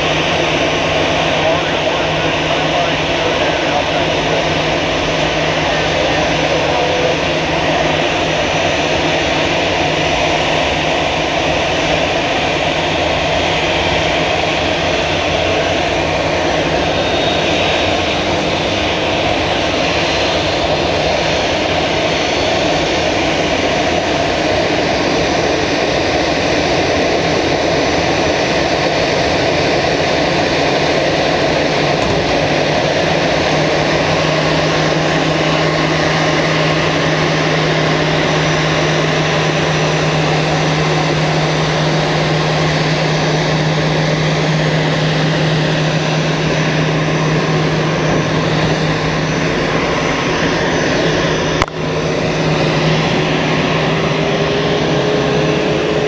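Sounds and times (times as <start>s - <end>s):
jet engine noise: 0.0s - 56.0s
tug engine hum: 0.0s - 56.0s.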